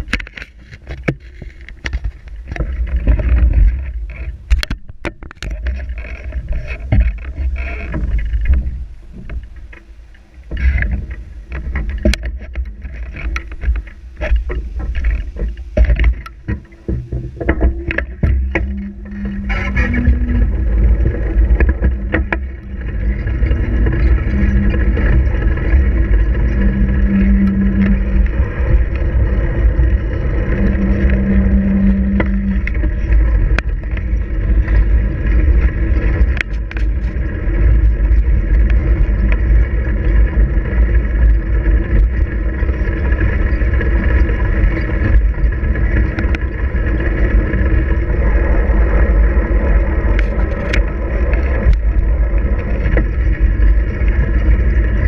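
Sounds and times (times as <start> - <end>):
bike clicks and rattles: 0.0 - 55.0
low hum: 0.0 - 55.0
wind and road rumble: 0.0 - 55.0.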